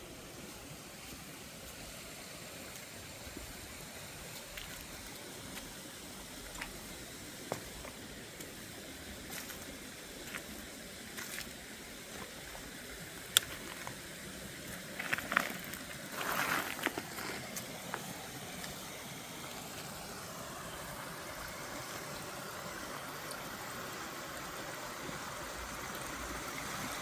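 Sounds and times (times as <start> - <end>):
flowing water: 0.0 - 27.0.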